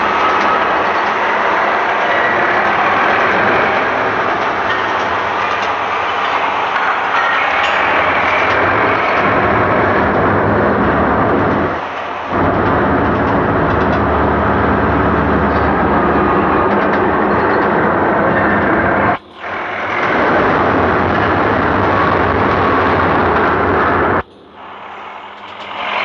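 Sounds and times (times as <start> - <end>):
train running: 0.0 - 26.0.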